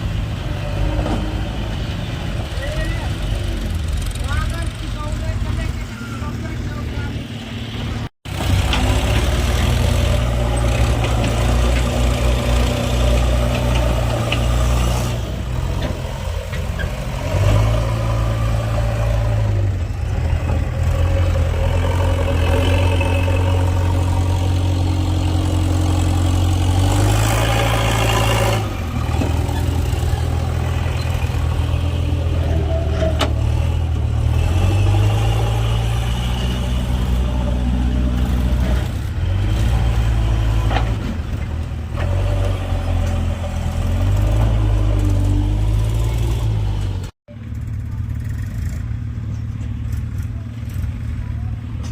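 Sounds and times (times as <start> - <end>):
heavy diesel engine droning: 0.0 - 51.9.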